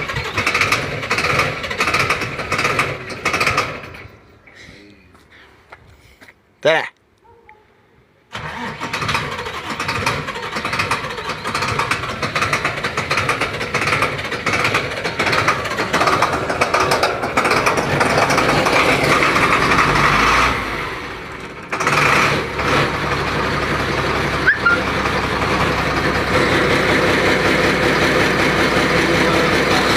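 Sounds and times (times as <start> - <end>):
heavy vehicle engine running: 0.0 - 4.5, 8.4 - 29.9.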